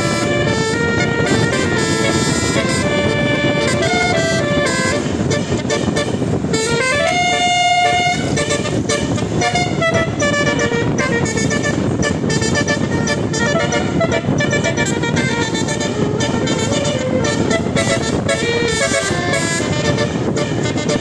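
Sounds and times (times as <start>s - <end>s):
multi-tone air horn melody: 0.0s - 21.0s.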